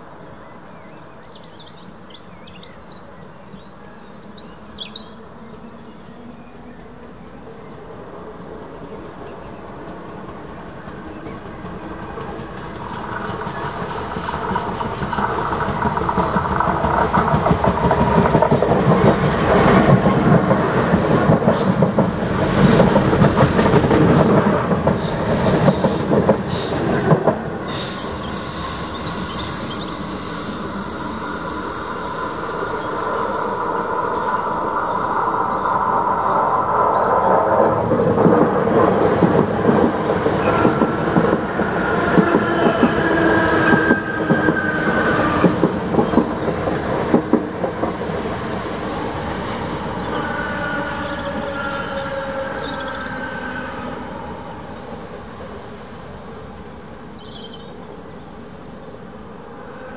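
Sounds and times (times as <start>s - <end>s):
train whine: 5.5s - 59.9s
electric train running past: 6.5s - 59.9s.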